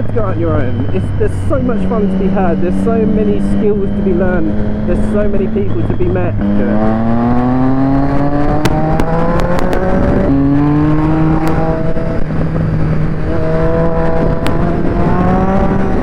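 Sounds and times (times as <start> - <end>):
motorcycle engine accelerating: 0.0 - 16.0
wind rush: 0.0 - 16.0.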